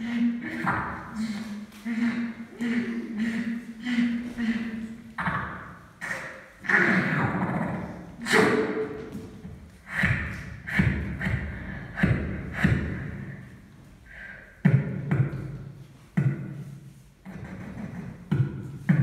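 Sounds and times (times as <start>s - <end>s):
beatboxing: 0.0s - 13.5s, 14.3s - 19.0s.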